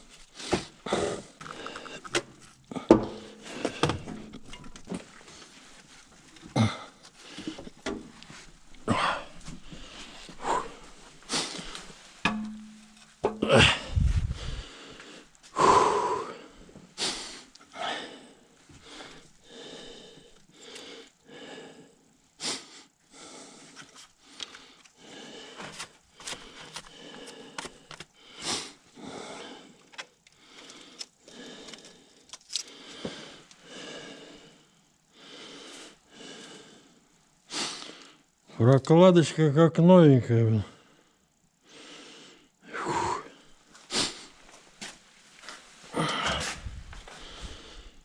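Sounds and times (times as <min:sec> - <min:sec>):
person breathing hard: 0:00.2 - 0:04.2, 0:06.5 - 0:12.0, 0:13.2 - 0:38.4, 0:40.7 - 0:44.5, 0:45.9 - 0:48.0.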